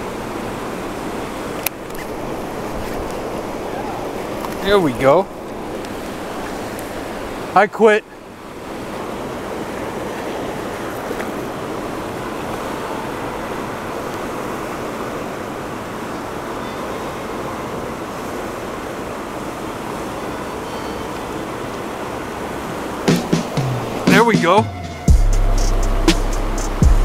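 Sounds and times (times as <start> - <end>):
river water rushing over rapids: 0.0 - 27.0.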